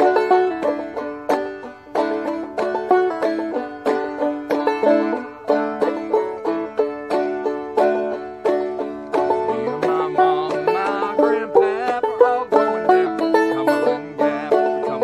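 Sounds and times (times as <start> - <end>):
banjo playing old-time tune: 0.0 - 15.0.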